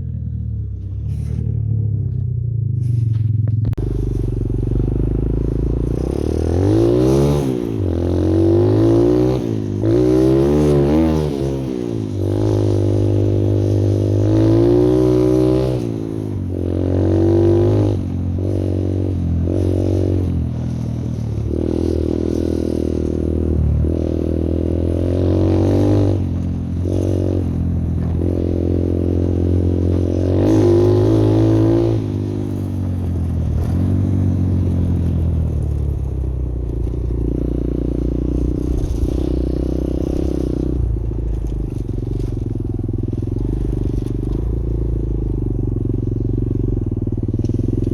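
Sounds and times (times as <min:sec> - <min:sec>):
motorbike engine revving: 0:00.0 - 0:47.9.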